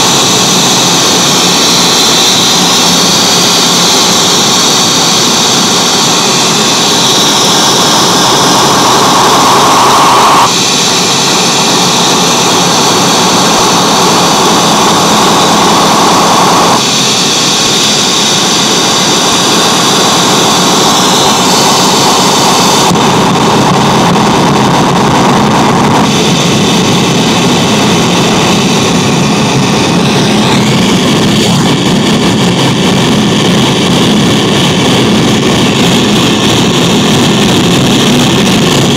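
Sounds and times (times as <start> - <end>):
continuous wash of pedal noise: 0.0 - 38.9.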